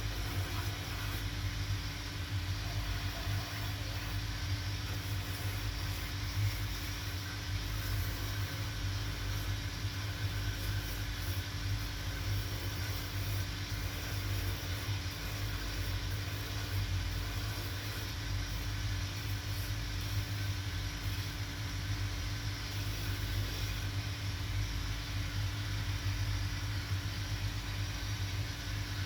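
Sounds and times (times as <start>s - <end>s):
electric motor humming: 0.0s - 29.0s.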